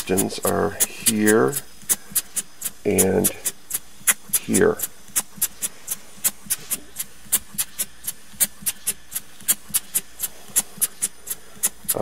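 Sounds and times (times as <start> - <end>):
model engine exhaust puffs: 0.0 - 12.0.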